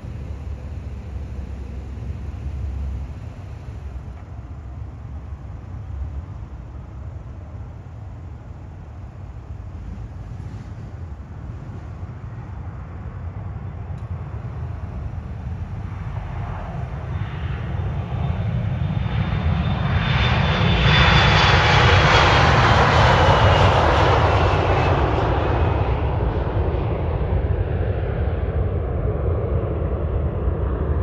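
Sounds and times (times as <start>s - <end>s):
low rumble: 0.0s - 26.9s
high engine whine: 0.0s - 31.0s
jet engines roaring on takeoff: 0.0s - 31.0s.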